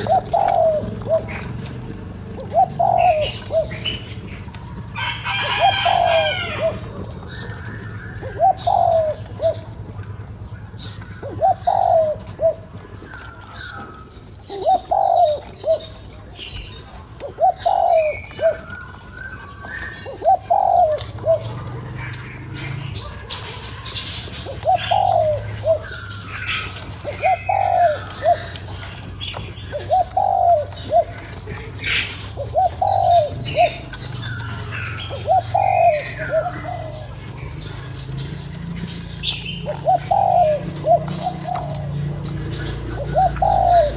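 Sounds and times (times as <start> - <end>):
dove cooing: 0.0 - 43.9
small birds chirping faintly: 0.0 - 43.9.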